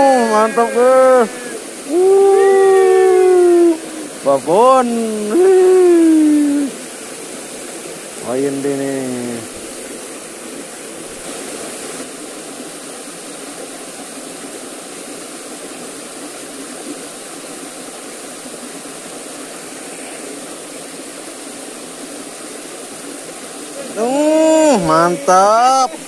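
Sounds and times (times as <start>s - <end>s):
water pouring over rocks: 0.0s - 26.0s.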